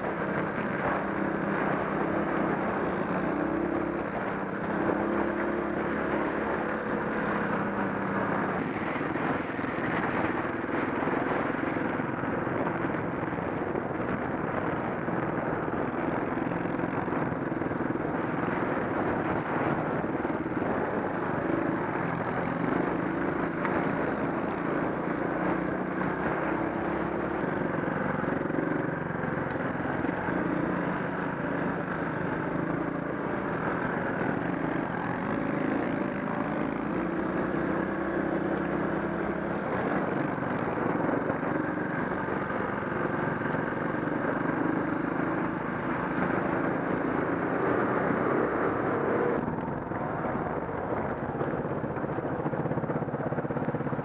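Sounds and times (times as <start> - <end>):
motorcycle engine running: 0.0 - 54.0
steady rushing noise: 0.0 - 54.0.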